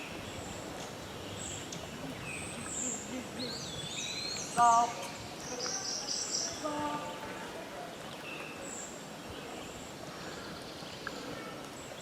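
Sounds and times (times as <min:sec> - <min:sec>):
songbirds singing: 0:00.0 - 0:12.0
steady outdoor hiss: 0:00.0 - 0:12.0.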